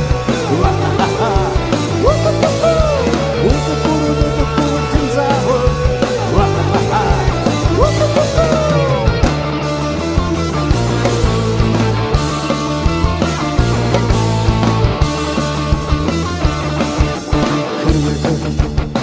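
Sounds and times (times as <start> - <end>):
bass: 0.0 - 19.0
drums: 0.0 - 19.0
lead guitar notes bending: 0.0 - 19.0.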